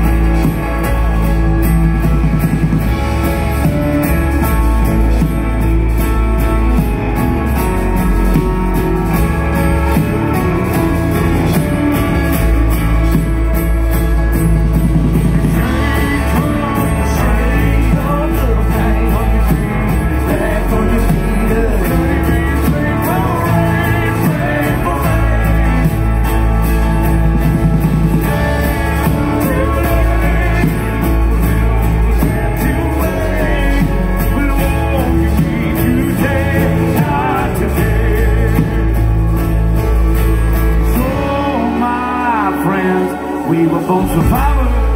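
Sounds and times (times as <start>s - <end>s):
person singing: 0.0s - 14.4s, 15.2s - 39.7s, 40.6s - 44.9s
live country-rock band playing: 0.0s - 44.9s.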